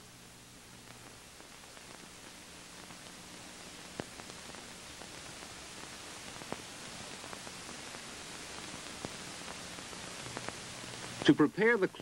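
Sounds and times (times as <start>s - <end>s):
crackles and pops: 0.0s - 12.0s
film soundtrack hiss: 0.0s - 12.0s.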